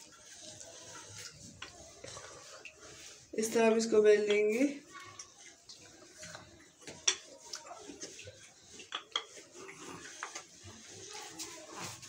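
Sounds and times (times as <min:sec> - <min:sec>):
rolling pin rolling dough: 0:00.0 - 0:05.0, 0:05.8 - 0:12.0.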